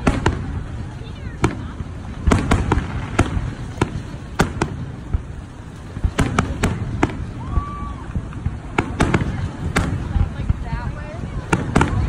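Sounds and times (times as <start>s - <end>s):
firework shells bursting: 0.0s - 12.0s
low rumble: 0.0s - 12.0s.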